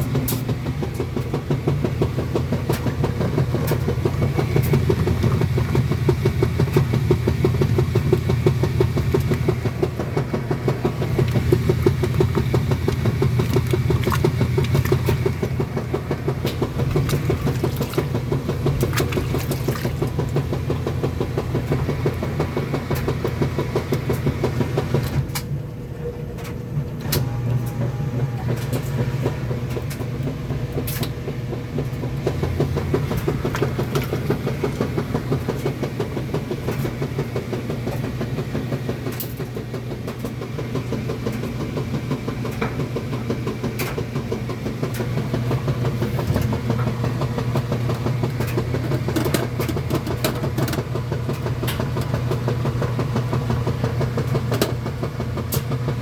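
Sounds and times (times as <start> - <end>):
washing machine humming: 0.0 - 56.0.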